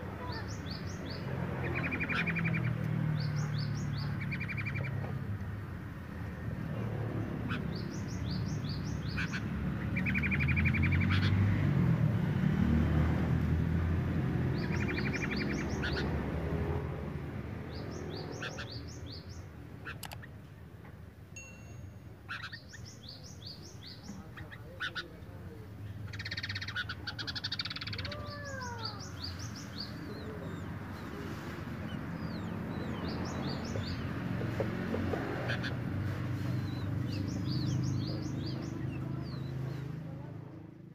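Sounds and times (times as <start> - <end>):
bulbuls chattering: 0.0 - 21.3, 22.0 - 40.9.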